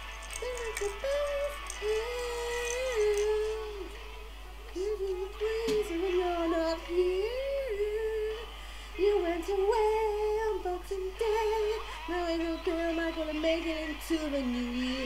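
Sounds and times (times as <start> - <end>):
woman singing wordless melody: 0.0 - 4.0, 4.7 - 15.0.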